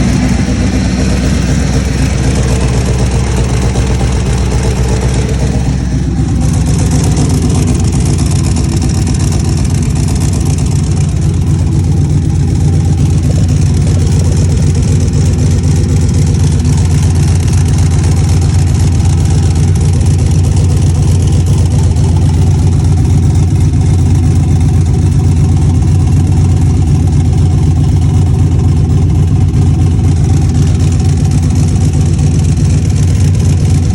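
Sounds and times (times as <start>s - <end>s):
engine idling with exhaust leak: 0.0s - 33.9s.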